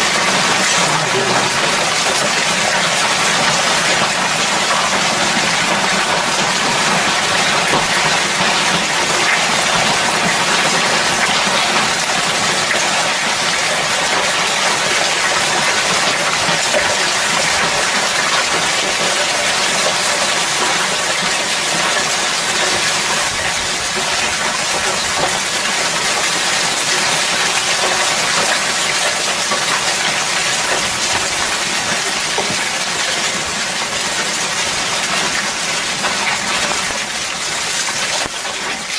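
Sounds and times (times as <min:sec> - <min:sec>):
hail and rain pelting: 0:00.0 - 0:38.9.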